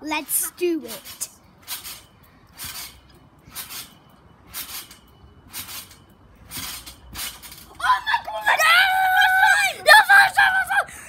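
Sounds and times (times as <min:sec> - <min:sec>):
trampoline mat and springs rustling: 0:00.0 - 0:10.7.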